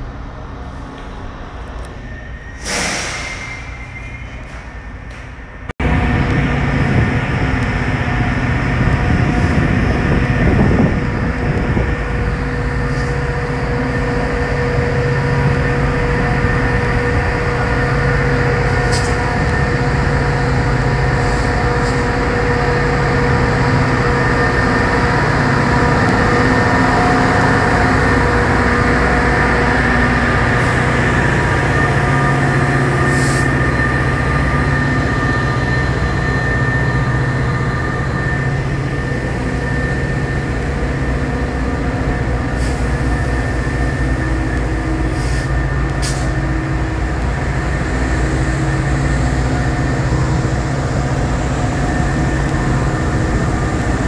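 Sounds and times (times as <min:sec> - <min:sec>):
engine whine: 0:00.0 - 0:54.0
locomotive engine rumbling: 0:00.0 - 0:54.0.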